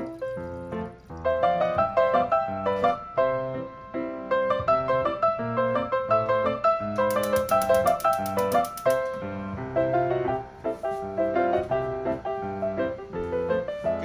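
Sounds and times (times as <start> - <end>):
piano tune: 0.0 - 14.0.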